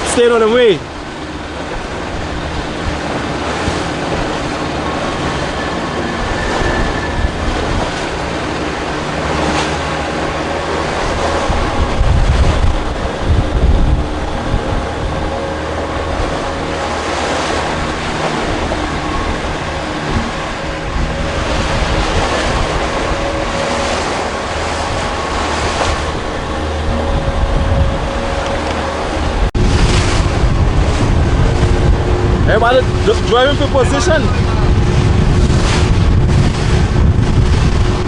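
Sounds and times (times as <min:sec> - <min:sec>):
rushing water: 0:00.0 - 0:38.0
wind buffeting microphone: 0:00.0 - 0:38.0.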